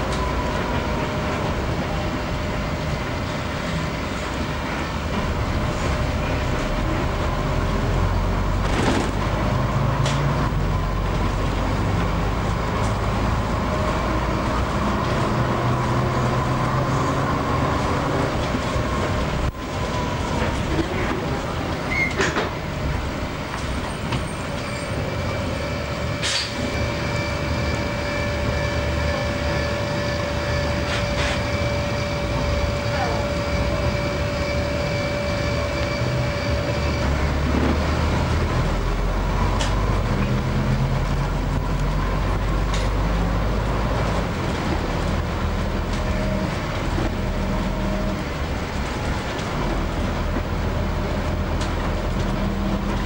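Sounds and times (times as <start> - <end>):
bus engine and road noise: 0.0 - 53.0
steady high whine: 0.0 - 53.0.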